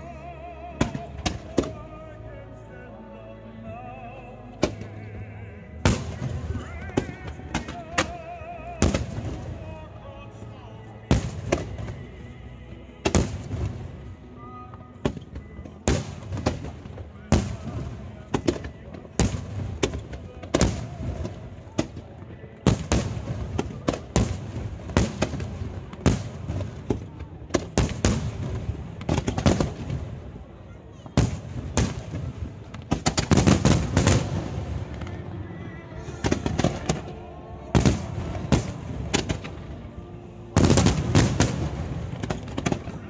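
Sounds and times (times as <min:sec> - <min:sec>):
fireworks bursting: 0:05.8 - 0:09.9, 0:11.1 - 0:12.4, 0:13.0 - 0:43.0.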